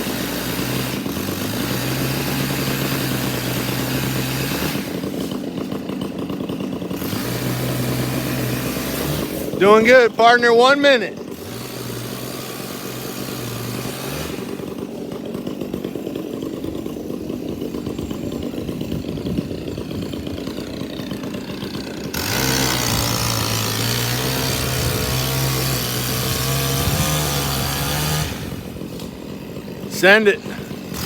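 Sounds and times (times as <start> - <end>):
chainsaw running at high revs: 0.0 - 31.0.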